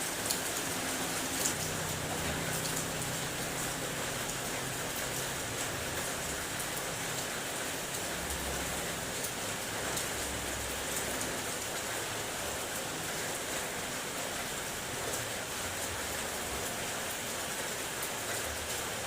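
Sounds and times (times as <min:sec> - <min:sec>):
rain on car roof: 0:00.0 - 0:19.0.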